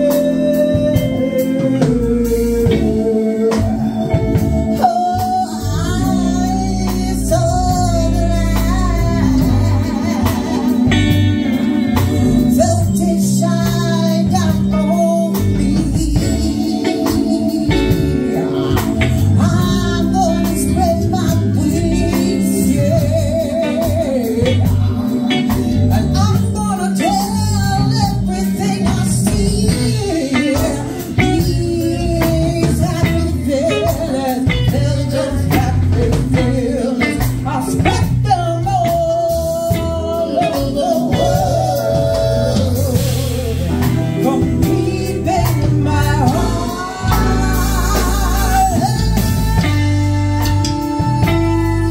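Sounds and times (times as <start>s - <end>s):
live blues band: 0.0s - 51.9s
person singing: 0.0s - 51.9s.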